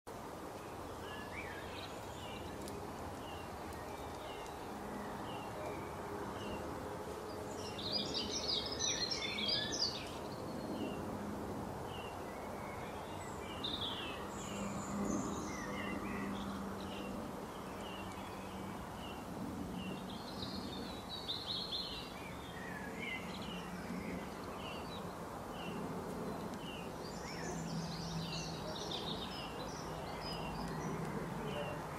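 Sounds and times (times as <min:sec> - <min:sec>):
birds chirping: 0:00.1 - 0:11.2, 0:11.8 - 0:31.9
steady background noise: 0:00.1 - 0:31.9.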